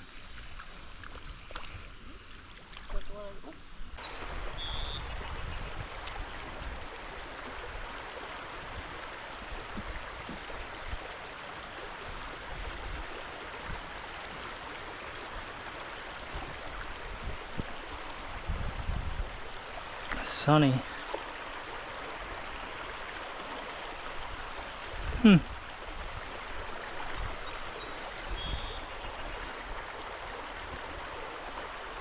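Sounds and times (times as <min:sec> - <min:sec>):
flowing creek water: 0:00.0 - 0:32.0.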